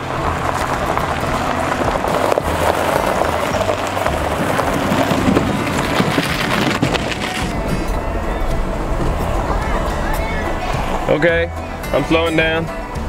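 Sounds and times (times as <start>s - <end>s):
low engine rumble: 0.0s - 13.0s
tyres crunching on gravel: 0.0s - 13.0s.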